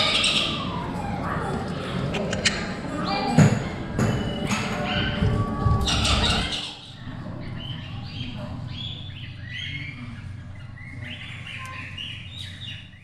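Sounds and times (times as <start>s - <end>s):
parrots chirping and squawking: 0.0s - 13.0s.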